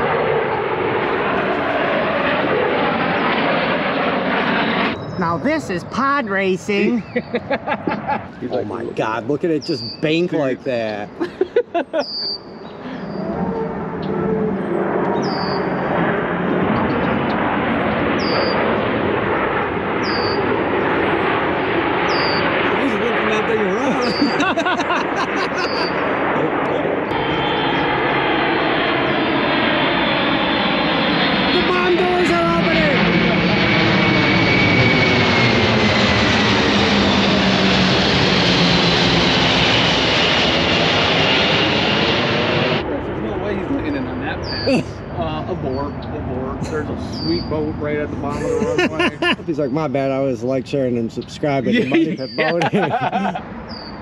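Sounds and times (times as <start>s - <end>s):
jet flying overhead: 0.0s - 51.6s, 52.2s - 54.0s.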